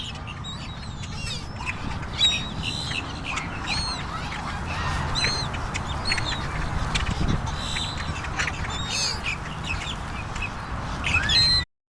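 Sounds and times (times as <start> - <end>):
birds calling: 0.0 - 11.7.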